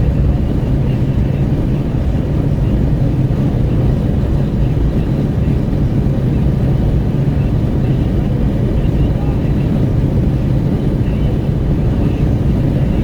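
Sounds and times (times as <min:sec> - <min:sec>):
wind rushing through car window: 0:00.0 - 0:13.0.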